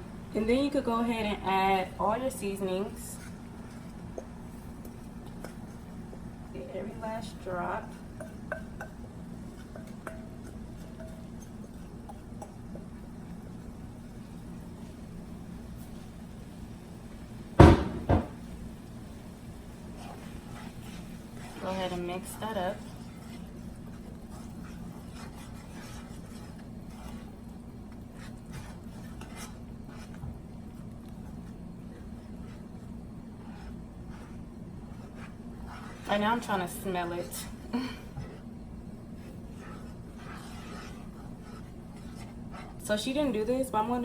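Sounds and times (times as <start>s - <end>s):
steady low hum: 0.0s - 44.0s
utensil scraping sauce in a pot: 0.8s - 6.1s, 6.9s - 16.3s, 19.4s - 43.9s.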